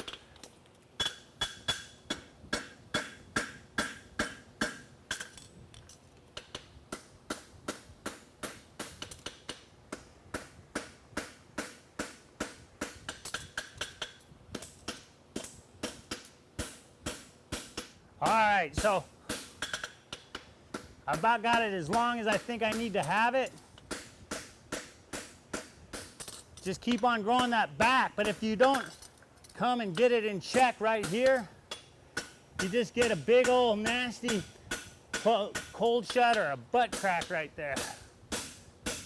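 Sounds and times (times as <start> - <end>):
hammer striking horseshoe on anvil: 1.0 - 5.5, 6.4 - 29.1, 29.8 - 39.0.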